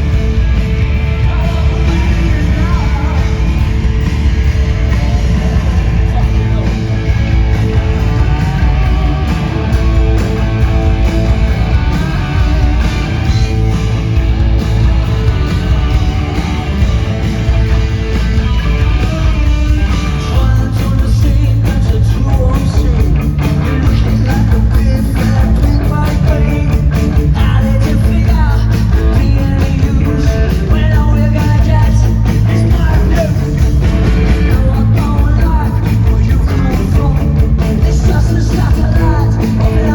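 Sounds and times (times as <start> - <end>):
punk rock band playing live: 0.0 - 39.9.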